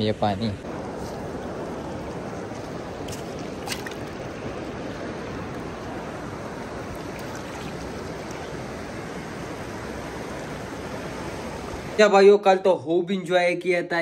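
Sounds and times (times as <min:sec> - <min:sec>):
river water rushing over rocks: 0:00.7 - 0:12.0.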